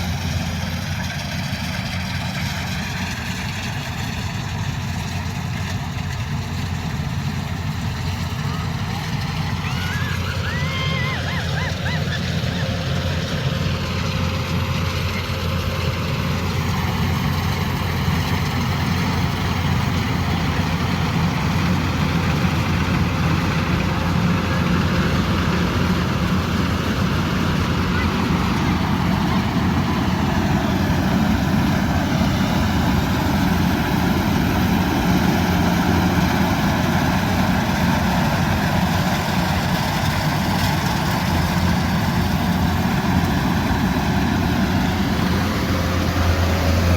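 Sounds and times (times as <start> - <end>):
combine harvester engine drone: 0.0 - 46.9.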